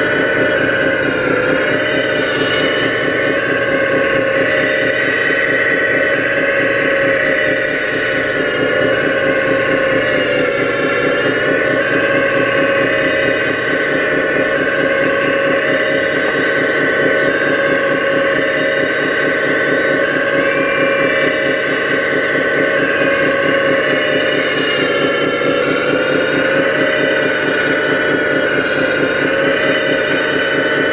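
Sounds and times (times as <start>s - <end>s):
toy excavator whine and chugging: 0.0s - 30.9s.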